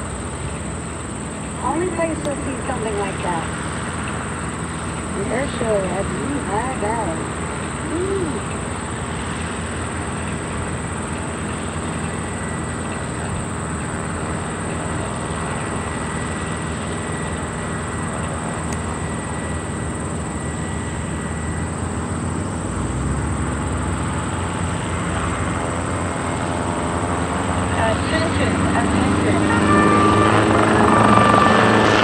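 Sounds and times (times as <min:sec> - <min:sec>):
propeller plane engine running: 0:00.0 - 0:32.0.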